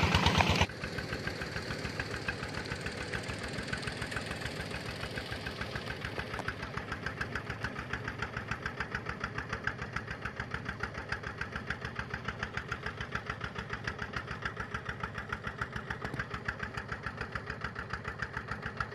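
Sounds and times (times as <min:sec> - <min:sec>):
diesel engine knocking at low speed: 0:00.0 - 0:18.9.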